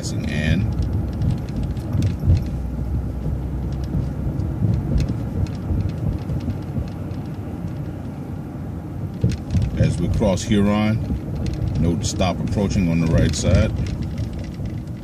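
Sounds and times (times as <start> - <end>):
bus engine and road rumble: 0.0 - 15.0
sharp rattles and clicks: 0.0 - 15.0.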